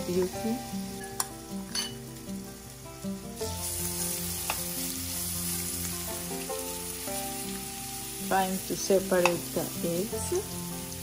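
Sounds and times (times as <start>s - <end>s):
background music: 0.0s - 11.0s
fish roe sizzling in oil: 0.0s - 11.0s.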